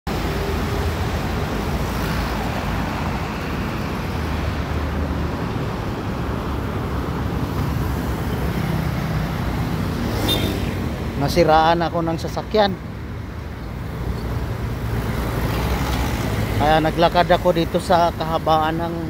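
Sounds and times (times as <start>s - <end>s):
busy road traffic: 0.0s - 19.0s.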